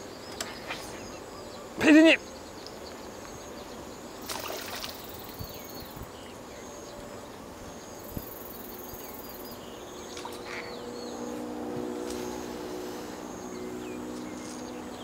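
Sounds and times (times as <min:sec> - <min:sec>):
small birds chirping: 0:00.0 - 0:15.0
steady outdoor hiss: 0:00.0 - 0:15.0.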